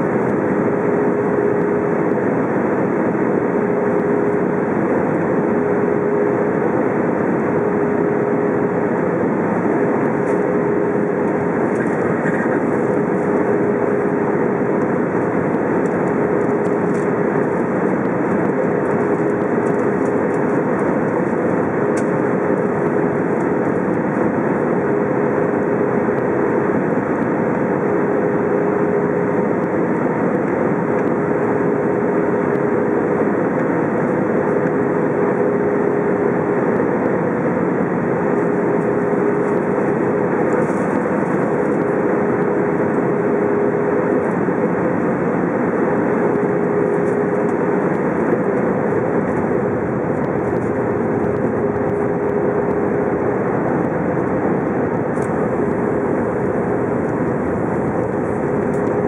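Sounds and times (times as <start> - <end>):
jet engine and airflow rush: 0.0 - 59.0.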